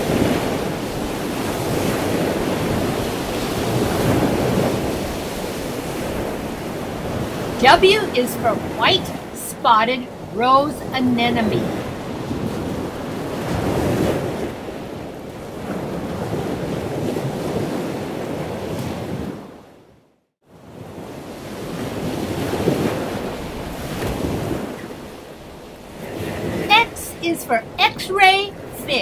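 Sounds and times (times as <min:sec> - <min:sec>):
rushing surf-like water: 0:00.0 - 0:29.0.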